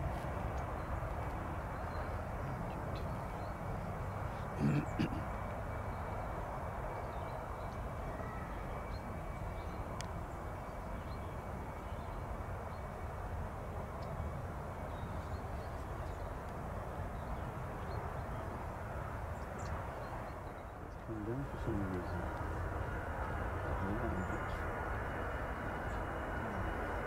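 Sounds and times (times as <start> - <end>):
distant jet engine rumble: 0.0 - 27.0.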